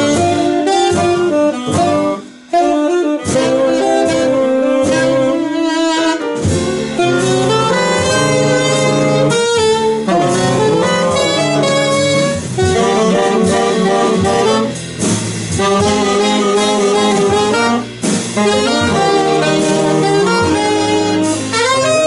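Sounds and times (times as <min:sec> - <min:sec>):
saxophones playing in harmony: 0:00.0 - 0:22.0.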